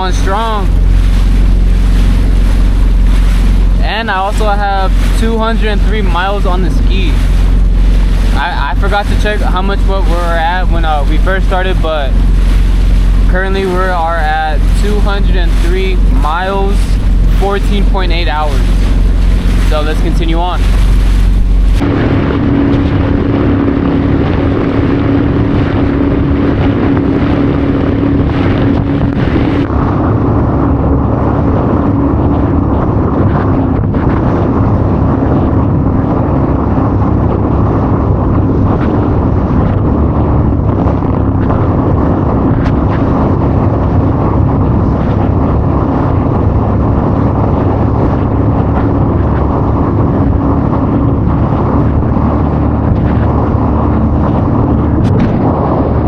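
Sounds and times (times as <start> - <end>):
jet ski engine drone: 0.0 - 56.0
wind rushing over microphone: 0.0 - 56.0.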